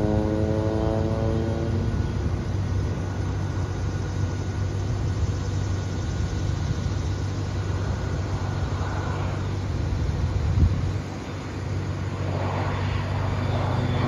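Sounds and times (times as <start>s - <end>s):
distant airplane engine droning: 0.0s - 14.0s.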